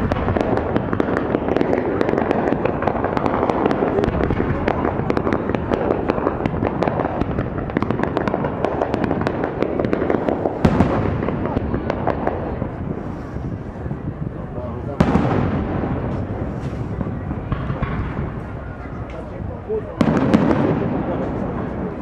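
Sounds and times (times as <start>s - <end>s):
loud firework bang: 0.0s - 14.3s, 14.9s - 22.0s
fireworks crackling and popping: 0.0s - 22.0s.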